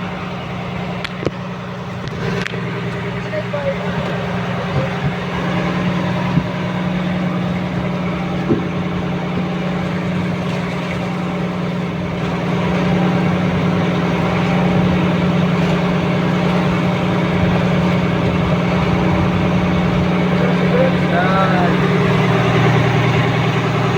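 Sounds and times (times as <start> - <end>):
boat engine humming: 0.0 - 23.9.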